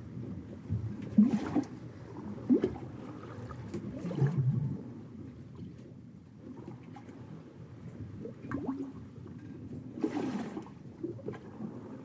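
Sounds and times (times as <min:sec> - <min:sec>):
faint sea wash: 0:00.0 - 0:12.0
water sloshing and gurgling: 0:00.0 - 0:12.0.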